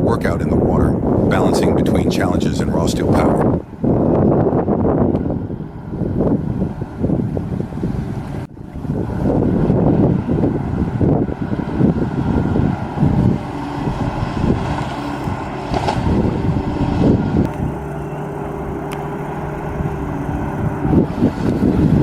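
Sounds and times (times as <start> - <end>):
diesel engine under load: 0.0 - 22.0
wind buffeting microphone: 0.0 - 22.0.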